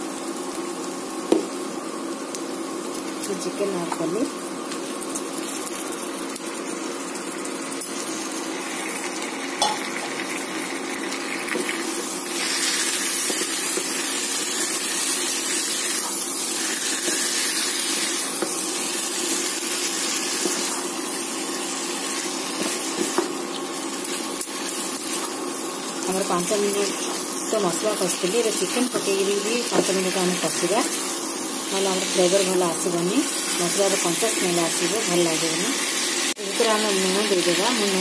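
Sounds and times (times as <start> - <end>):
chicken sizzling in hot oil: 0.0 - 38.0.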